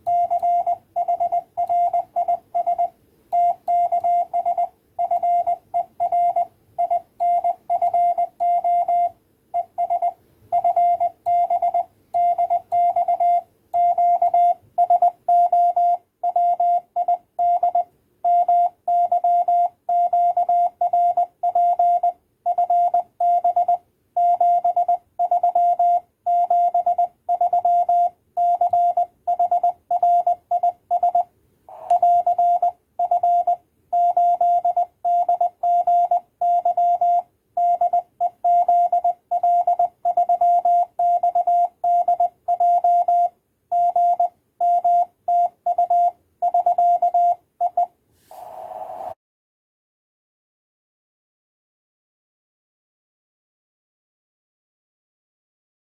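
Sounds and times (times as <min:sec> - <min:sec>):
morse code tone beeping: 0:00.0 - 0:49.2.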